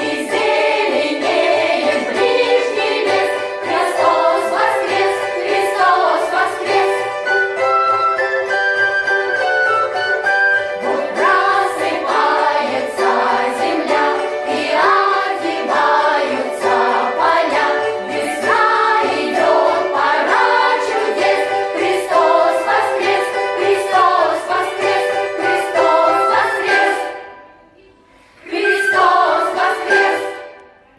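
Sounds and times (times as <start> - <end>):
vocal ensemble singing: 0.0 - 7.6, 10.5 - 30.8
instrumental accompaniment: 0.0 - 30.9.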